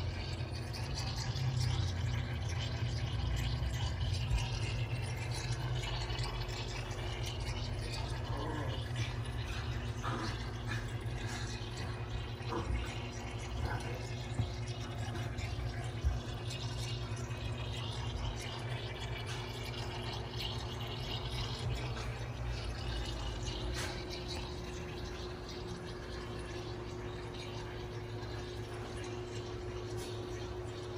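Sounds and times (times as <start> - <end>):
steady low hum: 0.0 - 30.9
water trickling and dripping: 0.0 - 30.9.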